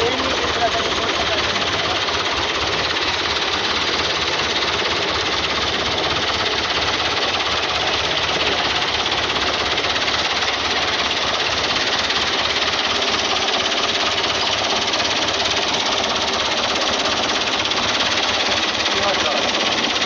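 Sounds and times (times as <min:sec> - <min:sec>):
tractor diesel engine clattering: 0:00.0 - 0:20.0.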